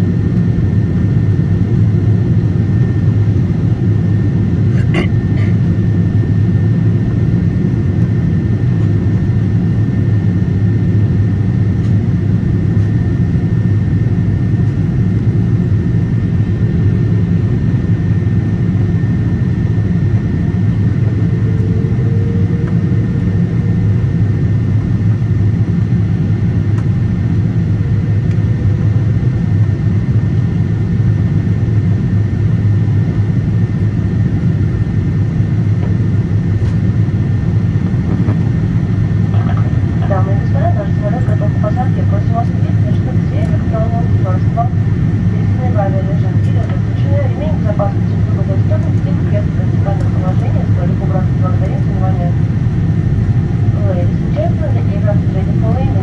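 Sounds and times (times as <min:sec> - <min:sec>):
airplane cabin engine rumble: 0:00.0 - 0:56.0
faint steady whine: 0:00.0 - 0:56.0.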